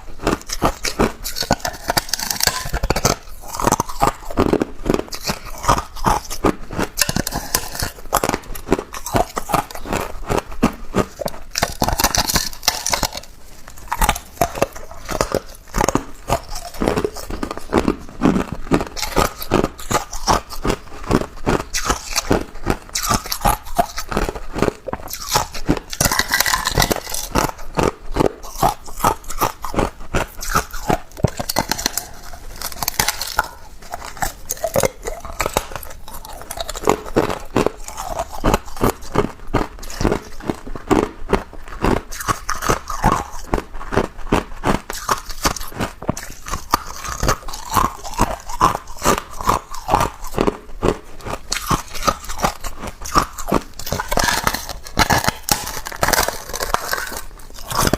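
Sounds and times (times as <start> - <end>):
ice being chewed: 0.0 - 57.9.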